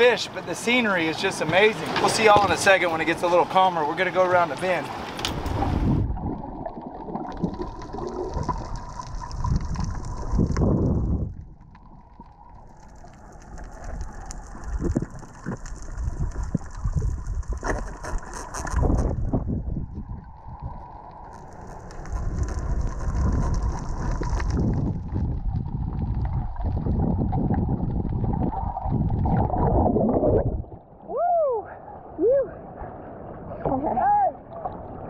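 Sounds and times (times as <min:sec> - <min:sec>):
water splashing: 0:01.1 - 0:31.0
muffled underwater rushing and bubbling: 0:01.2 - 0:31.0.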